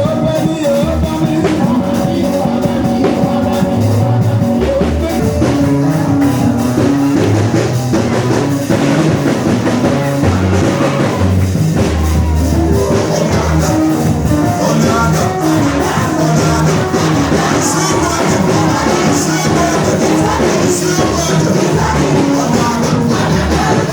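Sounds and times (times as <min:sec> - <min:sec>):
loud band music: 0:00.0 - 0:23.9
person singing: 0:00.0 - 0:23.9.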